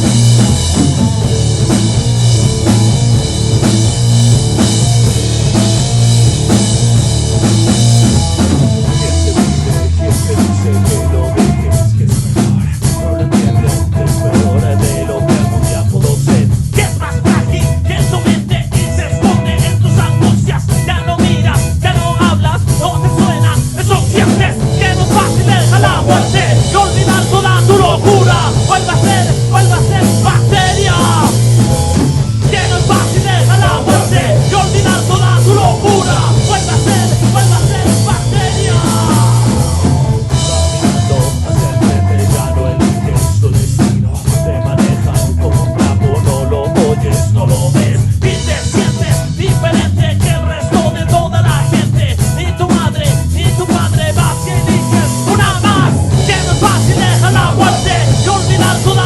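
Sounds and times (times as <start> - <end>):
drum kit: 0.0 - 59.0
heavy bass: 0.0 - 59.0
rock band playing live: 0.0 - 59.0
person singing: 8.8 - 59.0.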